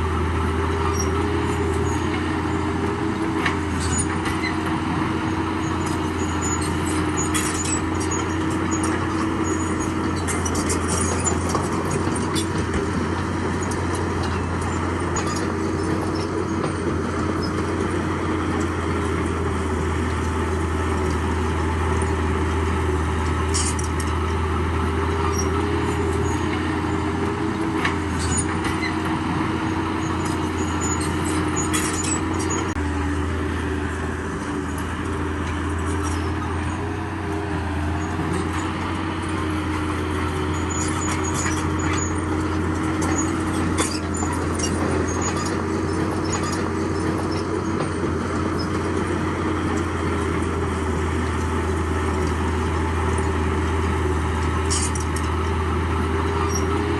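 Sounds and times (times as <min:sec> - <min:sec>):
diesel machinery engine drone: 0:00.0 - 0:56.9.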